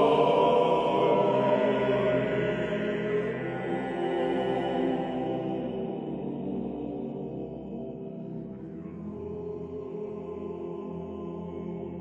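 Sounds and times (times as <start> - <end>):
men's choir chanting a cappella: 0.0 - 8.2, 8.8 - 12.0.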